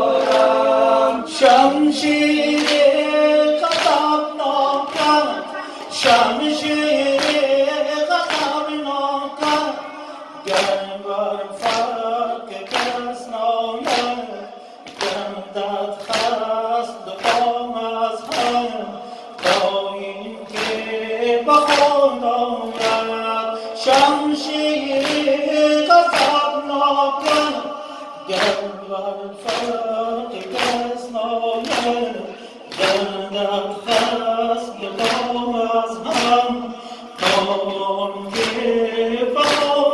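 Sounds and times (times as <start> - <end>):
man singing a lament into a microphone: 0.0 - 39.9
men singing along: 0.0 - 39.9
people beating their chests: 0.0 - 39.9.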